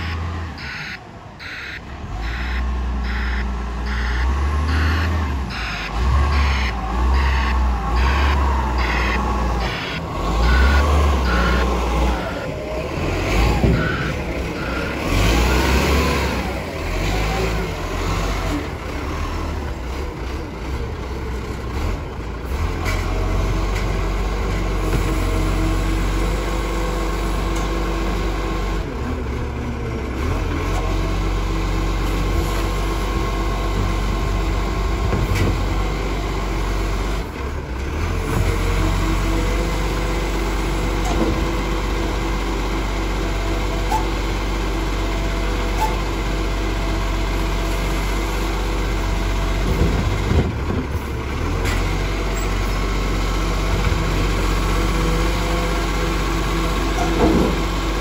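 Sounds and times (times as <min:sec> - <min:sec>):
garbage truck engine drone: 0:00.0 - 0:58.0.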